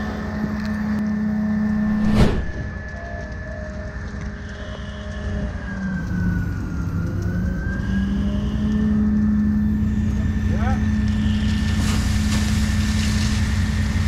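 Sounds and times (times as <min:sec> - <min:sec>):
fire engine pump running: 0:00.0 - 0:01.9, 0:02.6 - 0:14.0.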